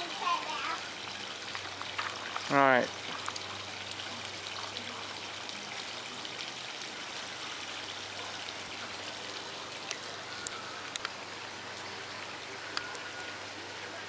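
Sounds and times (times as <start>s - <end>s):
water trickling down rocks: 0.0s - 14.0s.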